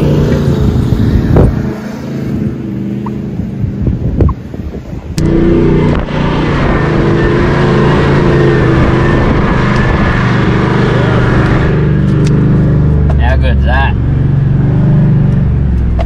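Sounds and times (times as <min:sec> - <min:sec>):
wind rush: 0:00.0 - 0:13.0
car engine pulling under load: 0:00.0 - 0:16.0.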